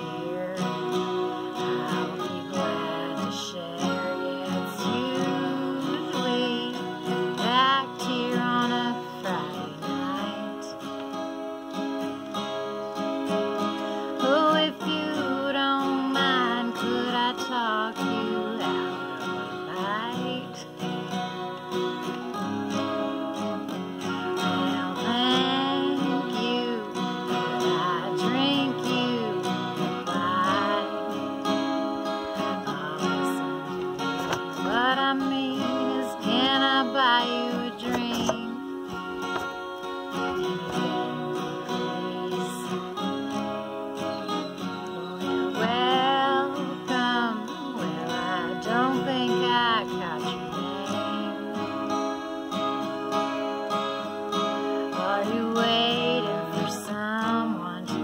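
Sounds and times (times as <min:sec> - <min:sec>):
acoustic guitar strumming: 0:00.0 - 0:58.0
woman singing: 0:00.0 - 0:58.0.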